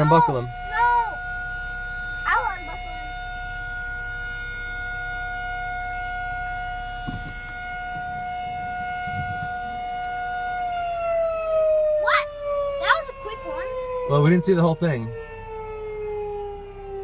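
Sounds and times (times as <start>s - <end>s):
tornado siren steady tone: 0.0s - 17.0s.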